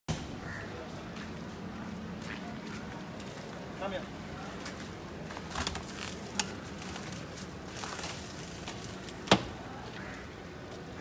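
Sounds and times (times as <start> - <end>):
faint background noise: 0.1 - 11.0.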